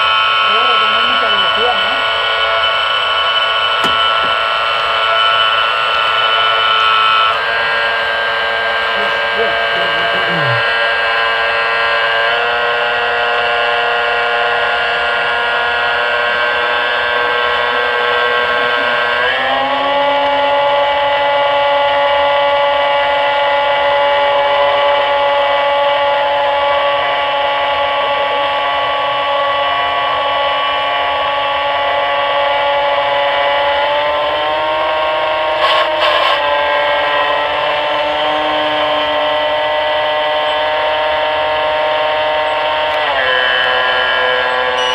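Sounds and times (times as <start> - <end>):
model airplane engine buzzing: 0.0 - 44.9.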